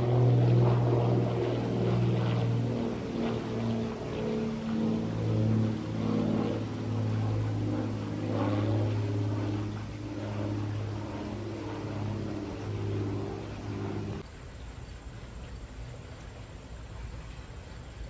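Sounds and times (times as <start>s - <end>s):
small airplane engine drone: 0.0s - 18.0s.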